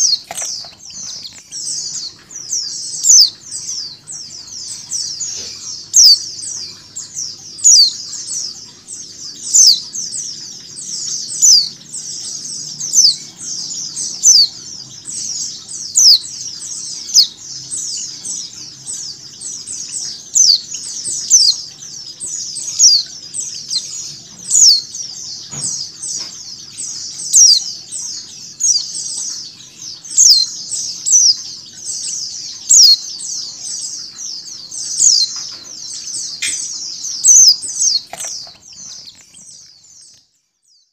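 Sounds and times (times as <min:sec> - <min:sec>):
flock of birds chirping: 0:00.0 - 0:40.9
louder bird chirp: 0:00.0 - 0:40.9.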